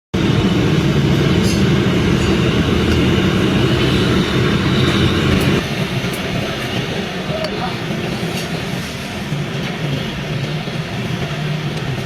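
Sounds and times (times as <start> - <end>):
machinery rumbling: 0.2 - 10.6.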